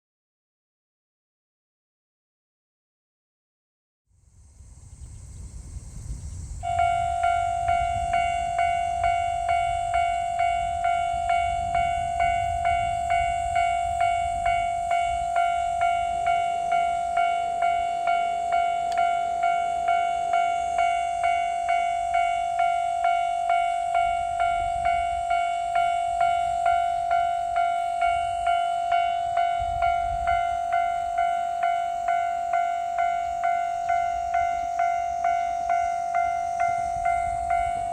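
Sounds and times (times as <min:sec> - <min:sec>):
level crossing warning bell: 0:06.6 - 0:37.9.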